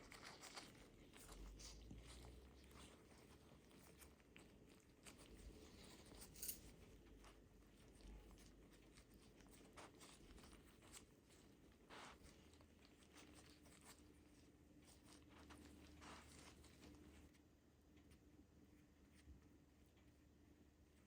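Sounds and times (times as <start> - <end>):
rustles of things being handled: 0.0 - 21.0.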